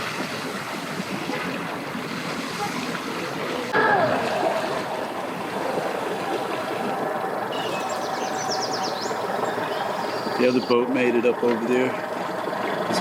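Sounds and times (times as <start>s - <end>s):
boat motors running: 0.0s - 13.0s
rushing water: 0.0s - 13.0s
wind: 0.0s - 13.0s.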